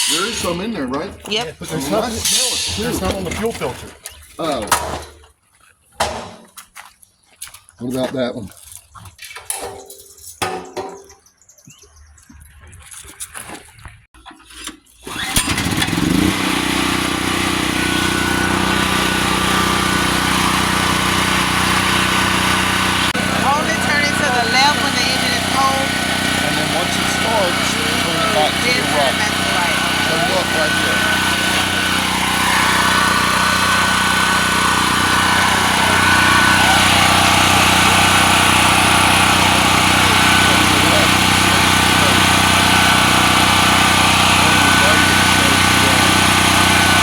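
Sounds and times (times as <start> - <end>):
generator engine starting: 0.0 - 5.0, 14.2 - 47.0.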